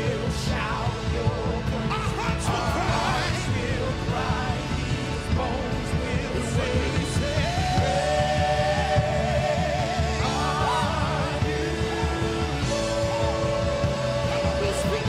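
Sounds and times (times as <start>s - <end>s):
lead singing with vibrato: 0.0s - 15.0s
worship band playing: 0.0s - 15.0s.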